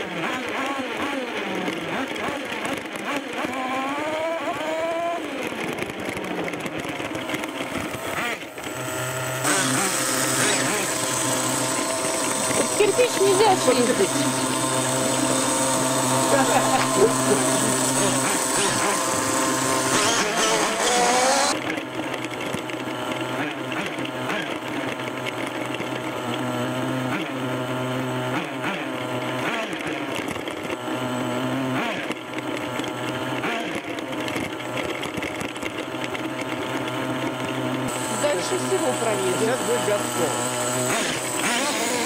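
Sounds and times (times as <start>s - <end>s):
rc truck engine buzzing: 0.0s - 42.0s.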